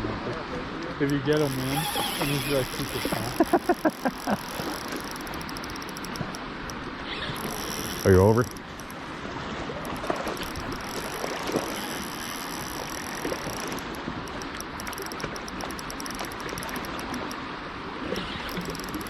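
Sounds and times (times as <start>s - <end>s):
river water rushing: 0.0s - 19.0s
faint clicks: 0.3s - 9.0s, 9.8s - 17.4s, 18.1s - 19.0s.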